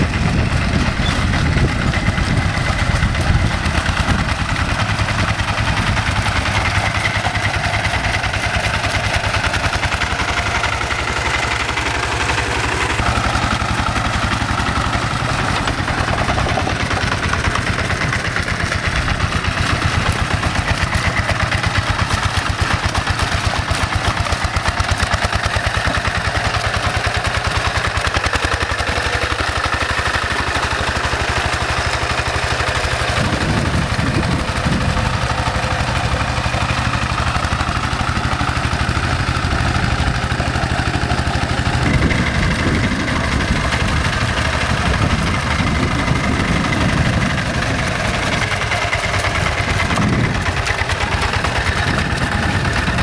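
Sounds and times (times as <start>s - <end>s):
diesel engine chugging: 0.0s - 53.0s.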